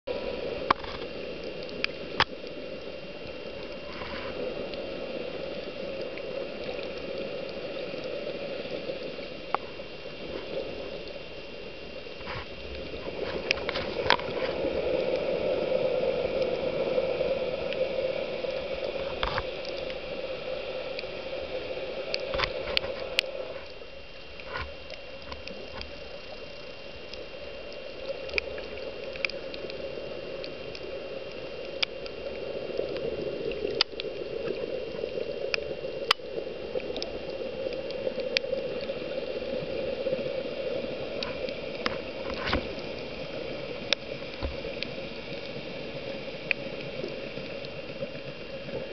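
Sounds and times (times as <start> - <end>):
muffled underwater noise: 0.1 - 48.9
sharp underwater clicks and crackles: 0.1 - 48.9.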